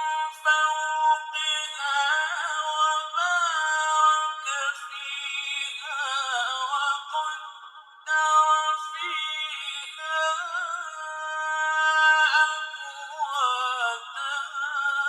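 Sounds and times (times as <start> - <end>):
man chanting melodic recitation: 0.0 - 15.0.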